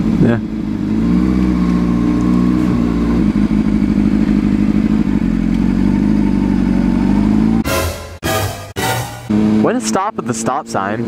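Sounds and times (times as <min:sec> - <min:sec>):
motorcycle engine running: 0:00.0 - 0:08.2, 0:09.2 - 0:11.0.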